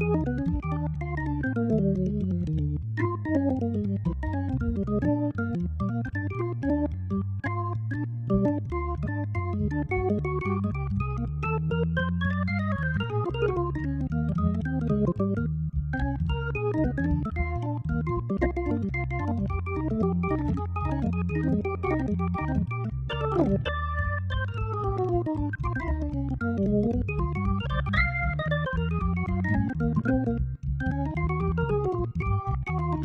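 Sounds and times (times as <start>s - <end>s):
organ playing jazz: 0.0s - 33.0s.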